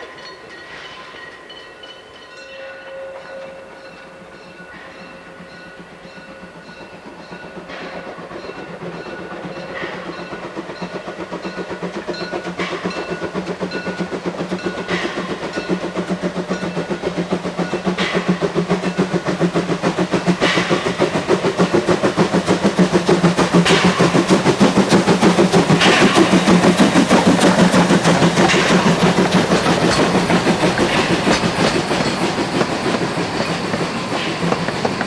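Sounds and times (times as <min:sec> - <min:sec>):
steam train chuffing: 0:00.0 - 0:35.0.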